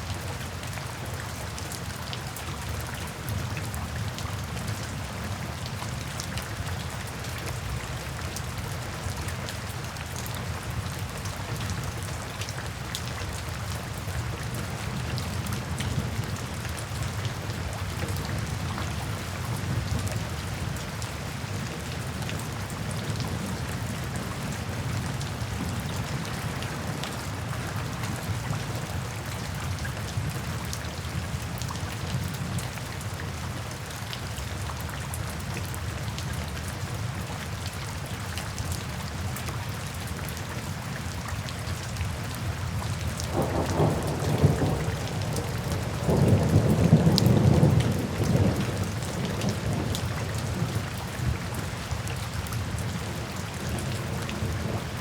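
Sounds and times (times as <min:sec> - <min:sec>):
rain falling into puddles: 0:00.0 - 0:55.0.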